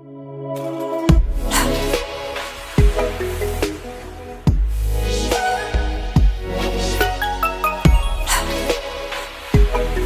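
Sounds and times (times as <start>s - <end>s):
electronic music melody: 0.0s - 10.0s.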